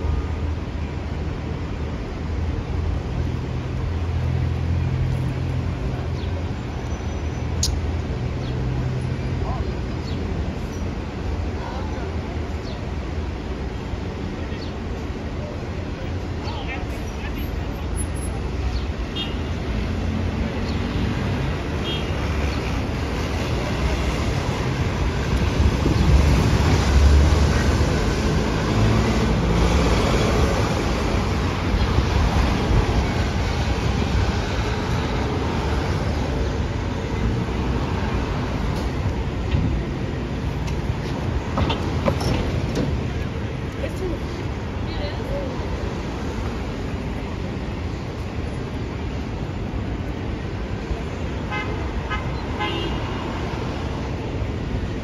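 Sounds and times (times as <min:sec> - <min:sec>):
bus engine rumbling: 0:00.0 - 0:55.0
street traffic noise: 0:00.0 - 0:55.0.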